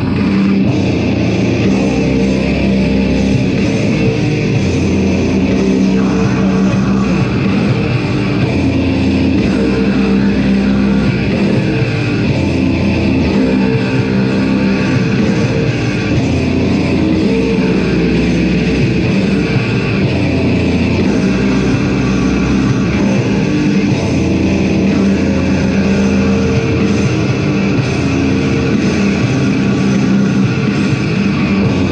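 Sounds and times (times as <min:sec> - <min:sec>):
heavy metal band playing live: 0:00.0 - 0:31.9.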